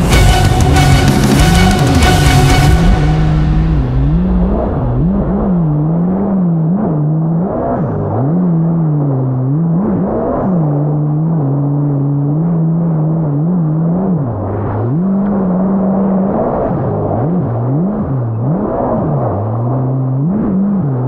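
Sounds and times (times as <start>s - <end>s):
jet ski engine revving: 0.0s - 21.0s.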